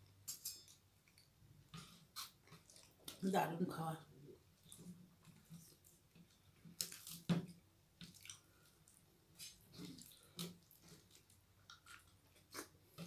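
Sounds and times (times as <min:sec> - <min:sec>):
wet chewing and mouth sounds: 0:00.0 - 0:03.2, 0:04.5 - 0:13.0.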